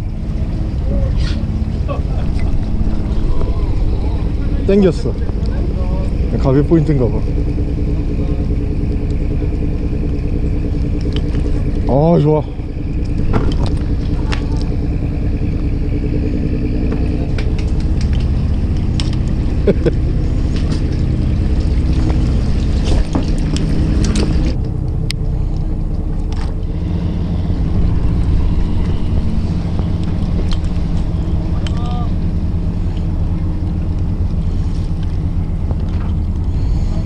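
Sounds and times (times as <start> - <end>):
boat engine rumbling: 0.0 - 37.0.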